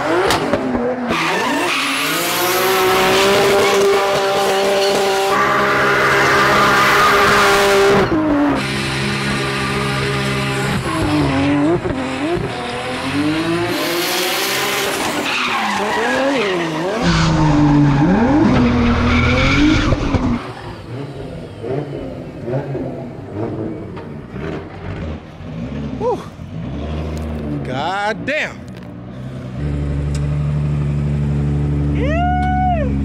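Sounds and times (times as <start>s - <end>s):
car engine revving: 0.0s - 32.1s.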